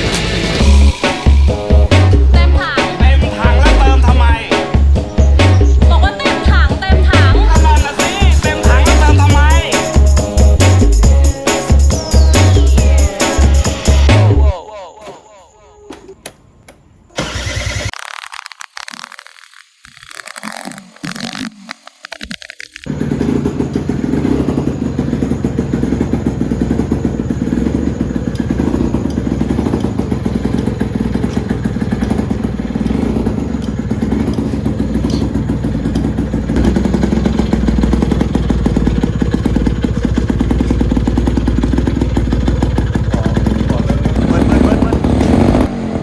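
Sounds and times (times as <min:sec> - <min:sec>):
two-stroke scooter engine running: 0:00.3 - 0:14.4, 0:17.2 - 0:17.9, 0:22.8 - 0:46.0.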